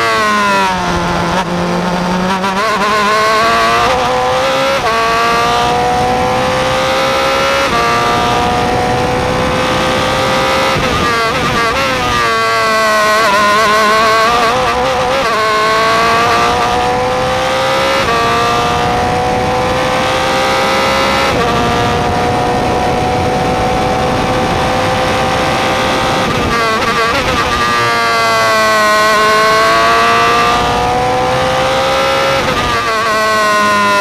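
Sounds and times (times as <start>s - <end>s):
race car engine: 0.0s - 34.0s.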